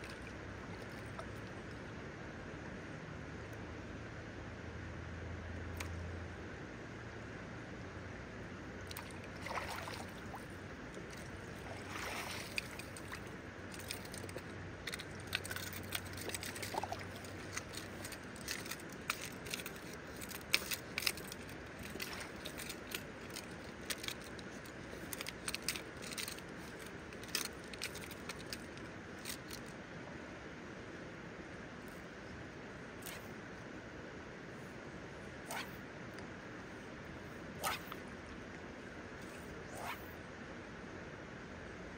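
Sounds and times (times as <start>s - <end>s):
shallow river flowing: 0.0s - 41.9s.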